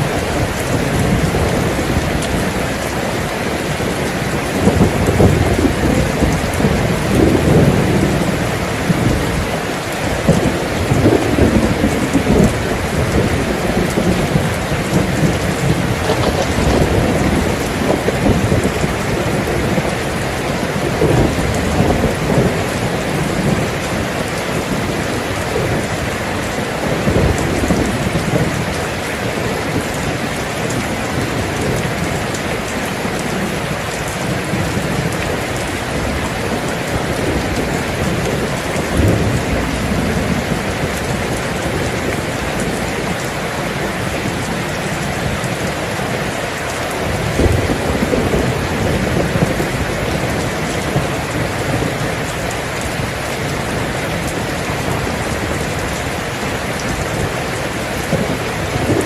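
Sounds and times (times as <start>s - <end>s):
heavy rain: 0.0s - 59.0s
rolling thunder: 0.0s - 59.0s.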